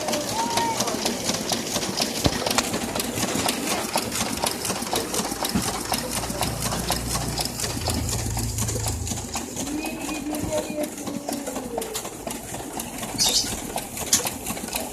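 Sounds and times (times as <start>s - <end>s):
low motor hum: 0.0s - 14.9s.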